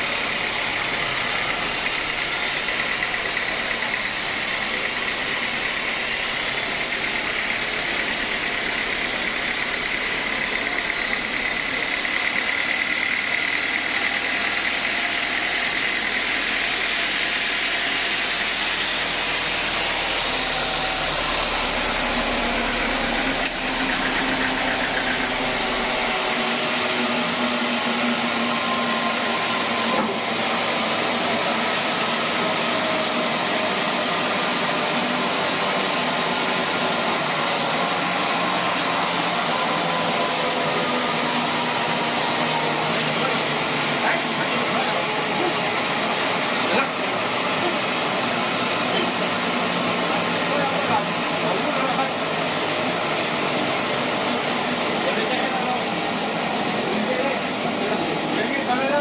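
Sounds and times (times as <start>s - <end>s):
high saw whine: 0.0s - 59.0s
sawmill machinery running: 0.0s - 59.0s.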